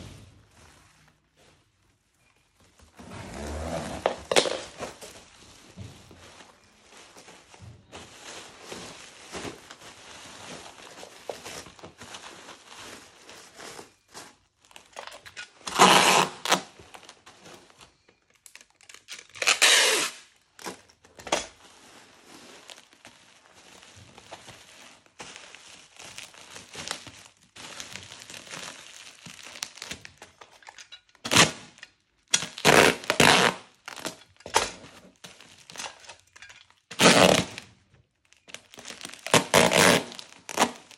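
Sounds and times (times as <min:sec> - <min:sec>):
packaging crinkling and rustling: 0:00.0 - 0:40.9.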